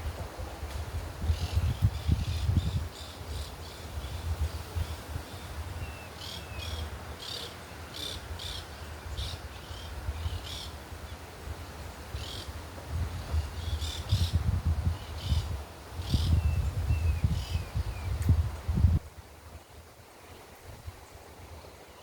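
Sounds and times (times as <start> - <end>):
wind rumbling on microphone: 0.0 - 7.1, 8.3 - 21.8.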